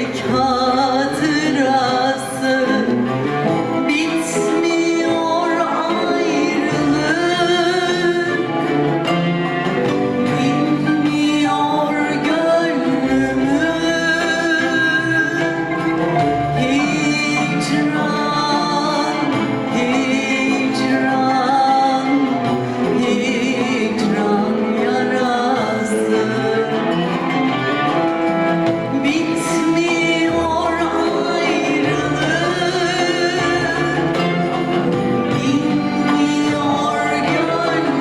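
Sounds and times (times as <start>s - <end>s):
person singing: 0.0s - 9.2s, 9.9s - 27.9s, 28.8s - 38.0s
instrumental accompaniment: 0.0s - 38.0s.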